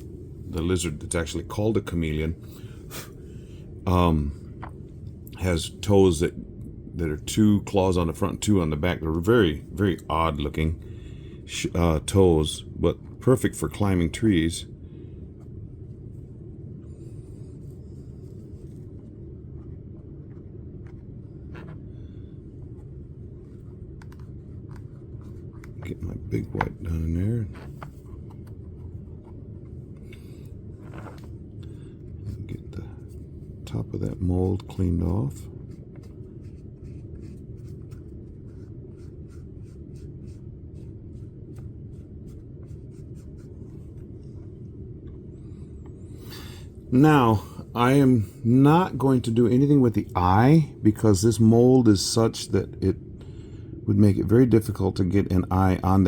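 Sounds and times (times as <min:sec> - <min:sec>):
low background rumble: 0:00.0 - 0:56.0
steady low hum: 0:00.0 - 0:56.0.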